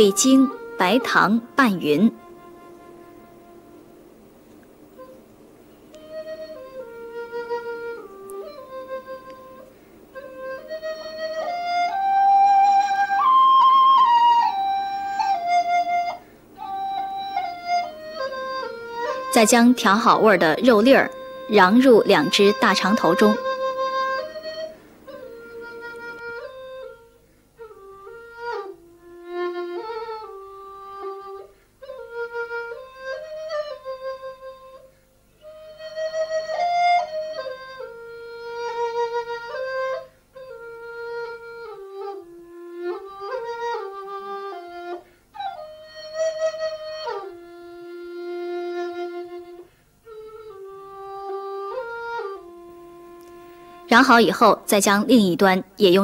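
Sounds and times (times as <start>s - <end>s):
flute melody: 0.0s - 56.0s.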